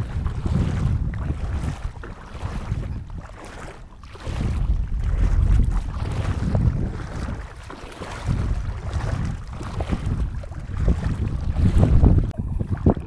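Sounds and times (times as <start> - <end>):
water sloshing around wading person: 0.0 - 13.0
wind gusting on microphone: 0.0 - 13.0.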